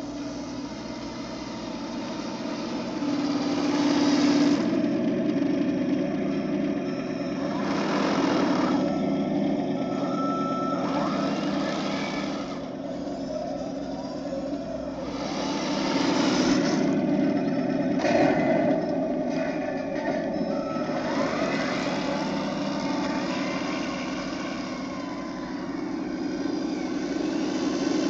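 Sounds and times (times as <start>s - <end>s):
electric motors whining: 0.0s - 28.0s
imitation diesel engine sound: 0.0s - 28.0s.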